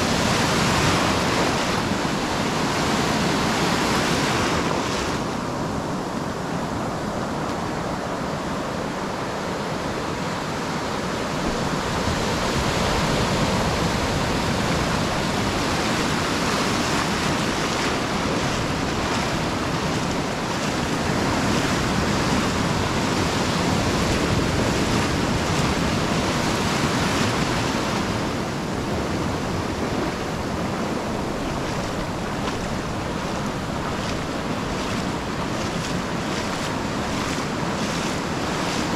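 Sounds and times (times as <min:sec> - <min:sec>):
small waves washing over sand: 0:00.0 - 0:38.9.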